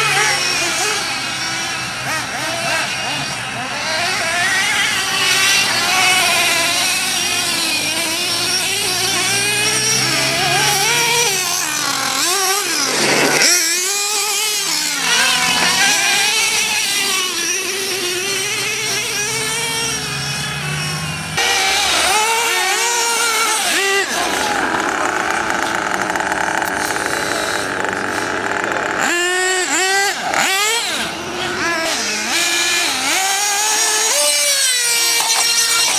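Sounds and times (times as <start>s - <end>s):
model car engine whining: 0.0s - 35.9s.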